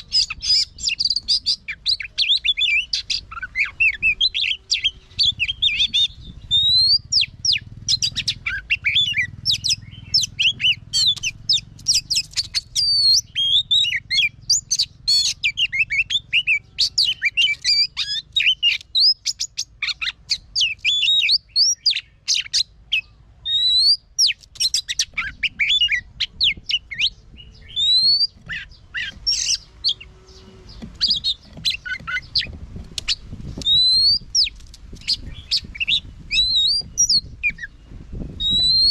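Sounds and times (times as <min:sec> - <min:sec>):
bird singing whistles: 0:00.0 - 0:38.9.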